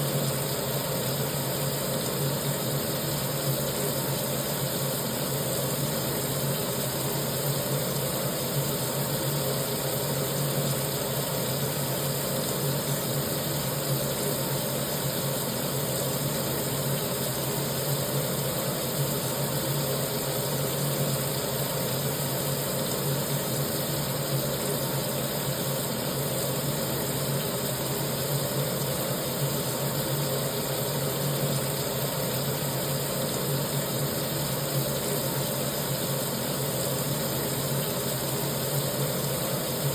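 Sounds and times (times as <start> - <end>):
tap water pouring into sink: 0.0 - 39.9.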